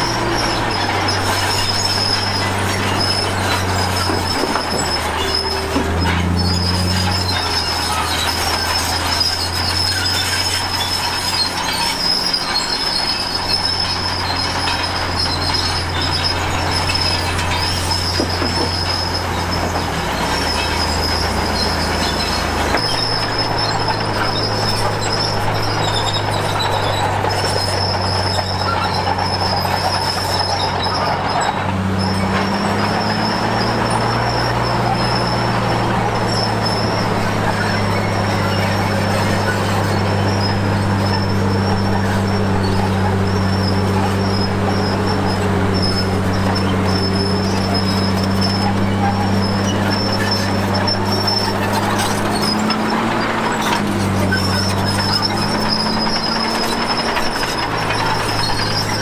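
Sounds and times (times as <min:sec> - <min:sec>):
diesel engine hum: 0:00.0 - 0:59.0
high squeal of steel tracks: 0:00.0 - 0:59.0.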